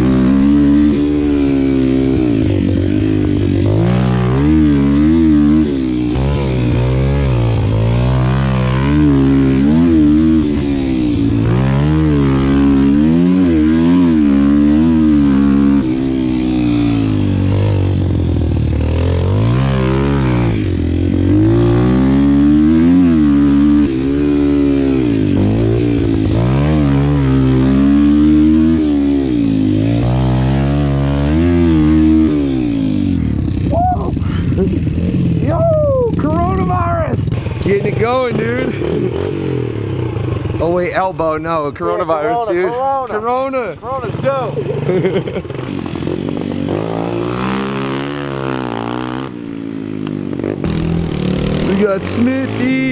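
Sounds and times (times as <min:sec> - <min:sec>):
pit bike engine revving: 0:00.0 - 0:52.9.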